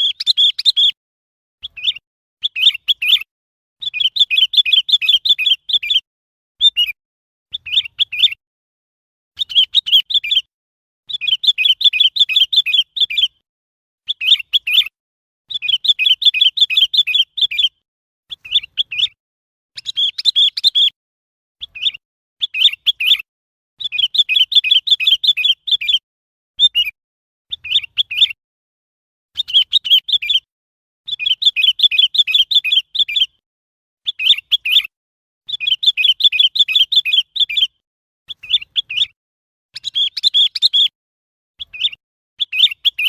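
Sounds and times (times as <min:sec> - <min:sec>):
bird chirpy calls: 0:00.0 - 0:01.0, 0:01.6 - 0:06.0, 0:06.6 - 0:08.4, 0:09.4 - 0:10.5, 0:11.1 - 0:13.4, 0:14.0 - 0:19.2, 0:19.8 - 0:21.0, 0:21.6 - 0:26.0, 0:26.6 - 0:28.4, 0:29.3 - 0:30.5, 0:31.1 - 0:33.4, 0:34.0 - 0:34.9, 0:35.5 - 0:41.0, 0:41.6 - 0:43.0.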